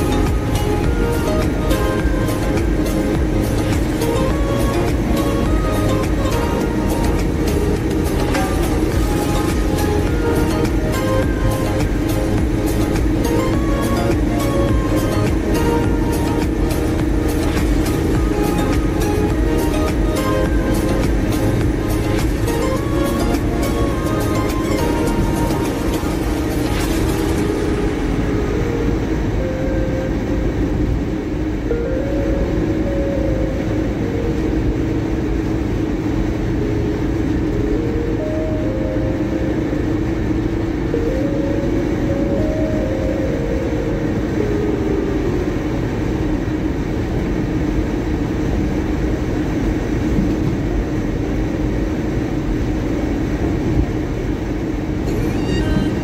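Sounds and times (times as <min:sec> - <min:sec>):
low drone: 0:00.0 - 0:56.0
tyres rumbling on road: 0:00.0 - 0:56.0
wind noise: 0:00.0 - 0:56.0.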